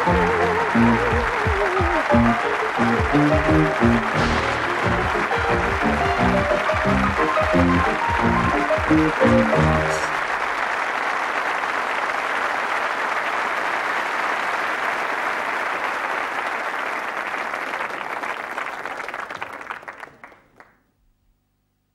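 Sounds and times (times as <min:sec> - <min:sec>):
audience applauding: 0:00.0 - 0:20.8.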